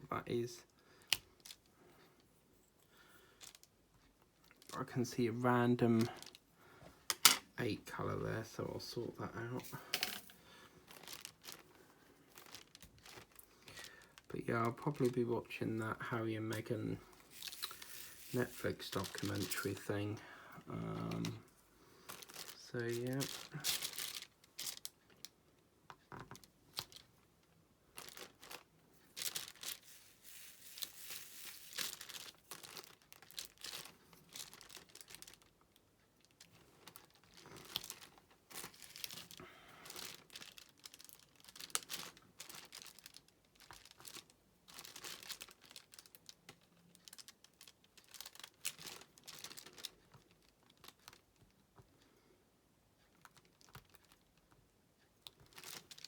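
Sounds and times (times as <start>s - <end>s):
plastic crinkling: 1.0s - 1.7s, 3.2s - 5.2s, 6.0s - 6.4s, 8.8s - 25.3s, 26.3s - 51.5s, 53.0s - 54.3s, 55.2s - 56.0s.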